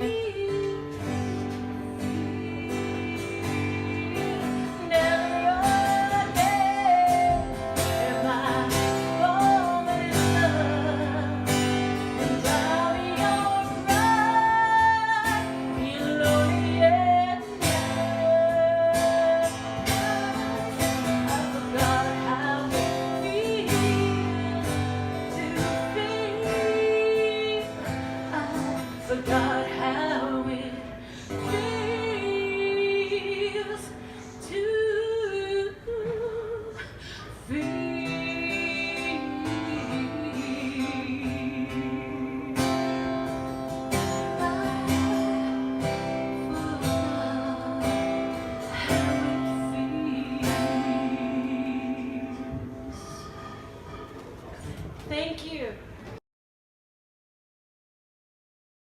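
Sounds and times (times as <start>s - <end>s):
woman singing: 0.0s - 53.3s
guitar: 0.0s - 56.2s.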